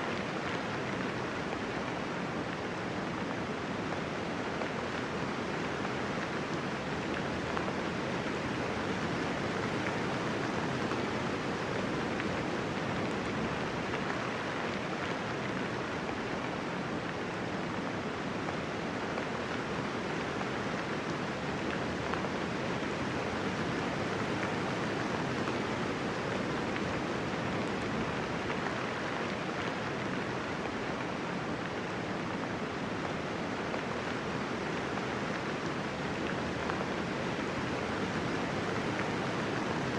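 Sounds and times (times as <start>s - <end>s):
soft steady rain: 0.0s - 39.9s.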